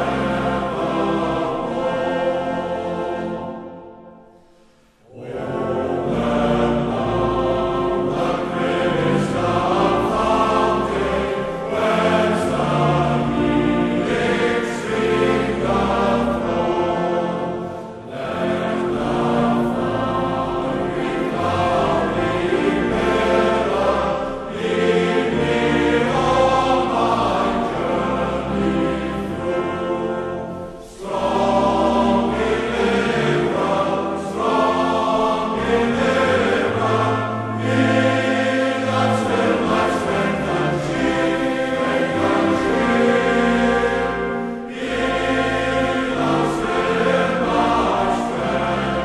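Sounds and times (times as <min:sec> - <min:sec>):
choir singing sustained chords: 0:00.0 - 0:49.0.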